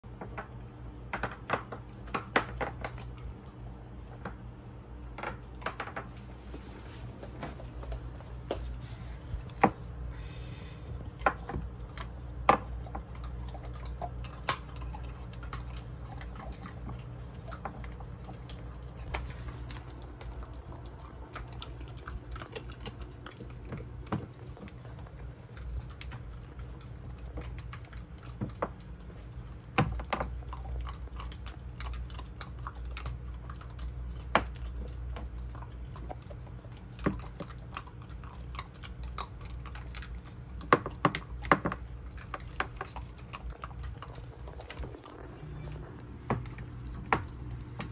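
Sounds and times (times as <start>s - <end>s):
puppy chewing a chew stick: 0.0s - 47.9s.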